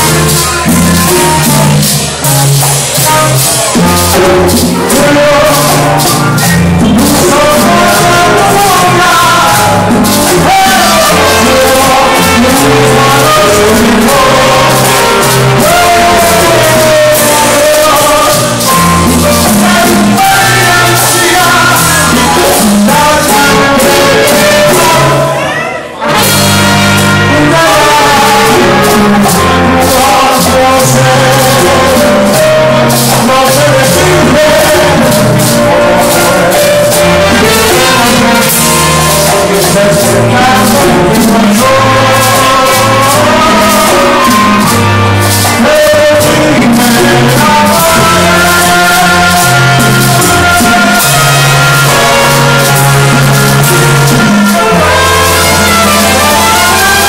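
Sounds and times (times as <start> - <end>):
latin dance band playing: 0.0 - 57.0.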